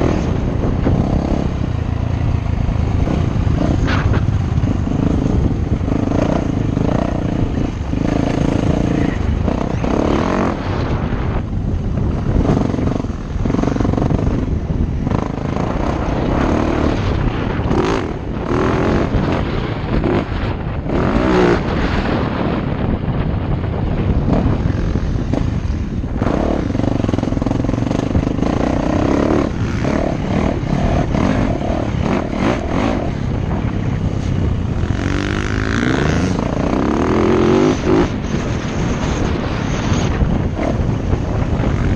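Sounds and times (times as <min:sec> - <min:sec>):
dirt bike engine revving: 0:00.0 - 0:23.1, 0:23.7 - 0:41.9.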